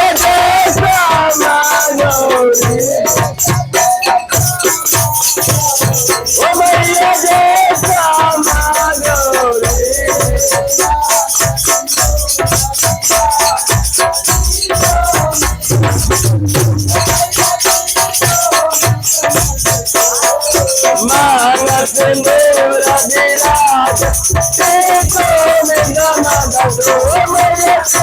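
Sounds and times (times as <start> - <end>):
devotional song: 0.0 - 28.0
shaker and drum beat: 0.0 - 28.0.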